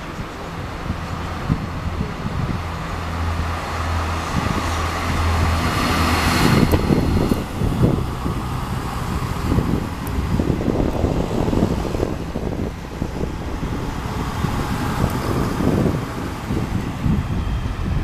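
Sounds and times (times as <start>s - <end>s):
diesel train engine hum: 0.0s - 18.0s
wheels rumbling on rails: 0.0s - 18.0s.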